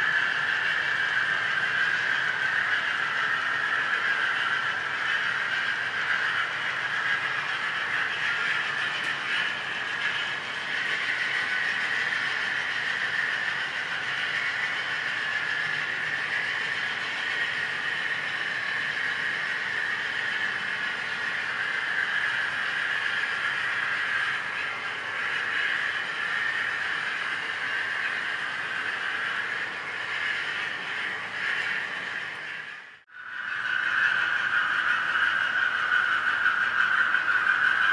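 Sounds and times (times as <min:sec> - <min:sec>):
model train running hiss: 0:00.0 - 0:37.9.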